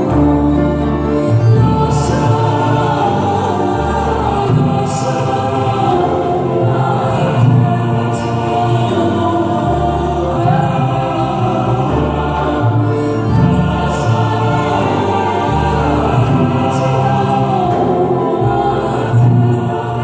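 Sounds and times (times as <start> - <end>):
choir with orchestra: 0.0 - 20.0.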